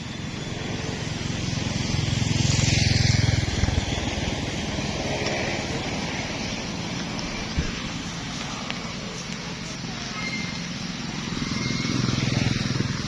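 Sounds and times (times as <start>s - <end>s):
vehicle engine passing by: 0.5s - 13.0s.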